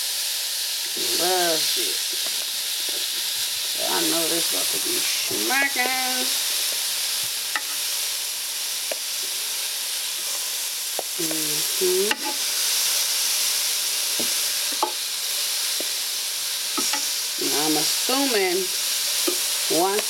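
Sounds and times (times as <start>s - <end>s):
shrimp sizzling on grill: 0.0s - 20.0s.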